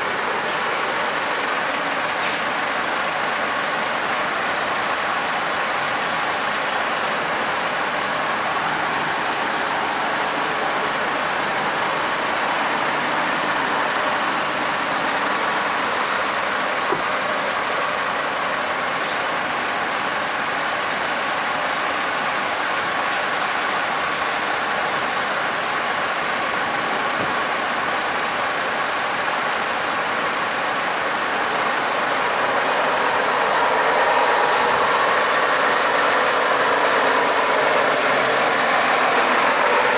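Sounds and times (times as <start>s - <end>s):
rain falling on wet asphalt: 0.0s - 39.9s.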